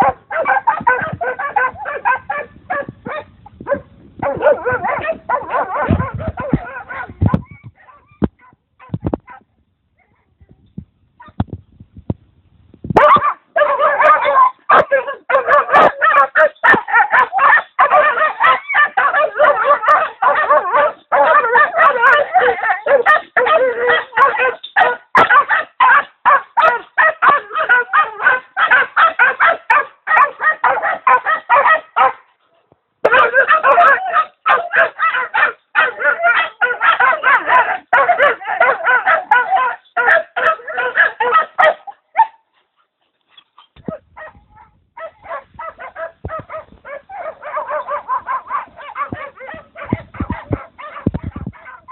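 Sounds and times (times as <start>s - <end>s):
hounds yelping and baying: 0.0s - 9.4s, 13.0s - 32.4s, 33.0s - 51.9s.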